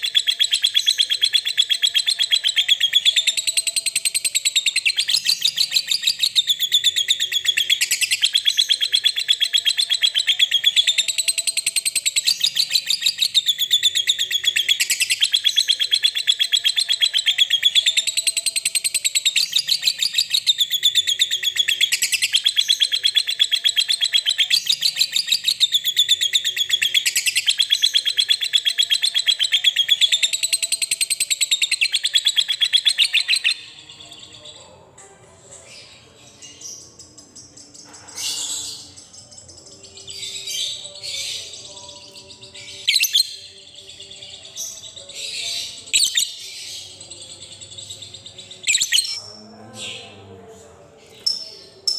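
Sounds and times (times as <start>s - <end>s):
lovebird high-pitched chatter: 0.0s - 34.4s, 36.4s - 43.5s, 44.3s - 49.2s.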